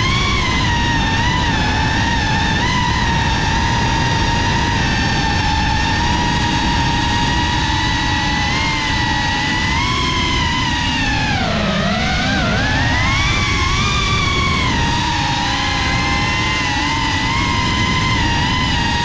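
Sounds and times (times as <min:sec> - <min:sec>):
drone motors whining: 0:00.0 - 0:19.0
low rushing noise: 0:00.0 - 0:19.0.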